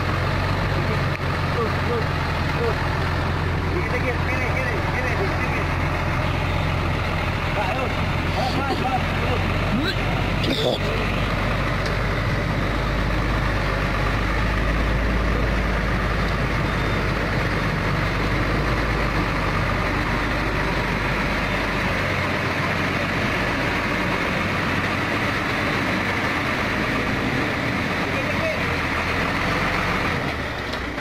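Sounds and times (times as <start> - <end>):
diesel truck engine at low revs: 0.0 - 31.0.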